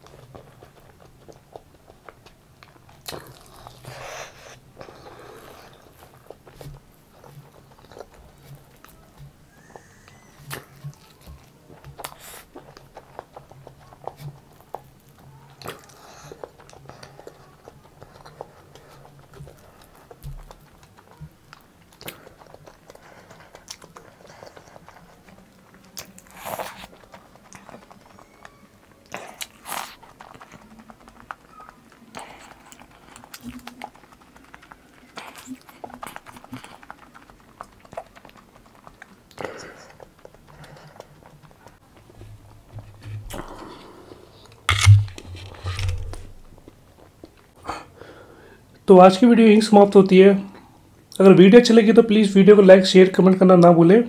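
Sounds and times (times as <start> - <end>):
chewing with mouth clicks: 0.0 - 48.0.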